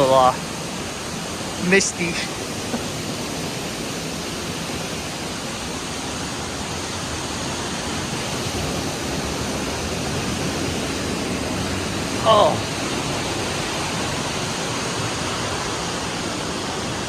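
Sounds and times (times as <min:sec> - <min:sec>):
waterfall crashing: 0:00.0 - 0:17.0.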